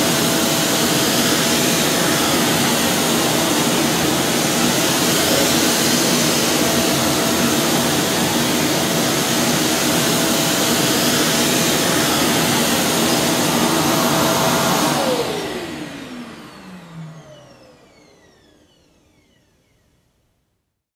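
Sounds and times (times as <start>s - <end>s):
motor winding down whine: 0.0s - 19.9s
vacuum cleaner running: 0.0s - 20.0s.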